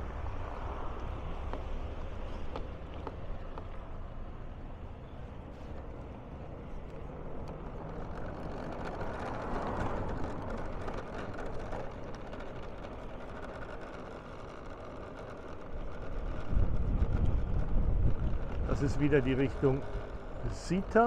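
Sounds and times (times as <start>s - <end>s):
road noise from moving car: 0.0s - 21.0s.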